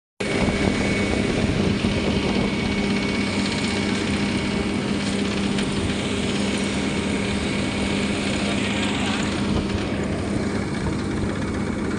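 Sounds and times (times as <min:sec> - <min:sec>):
diesel engine hum: 0:00.2 - 0:11.9.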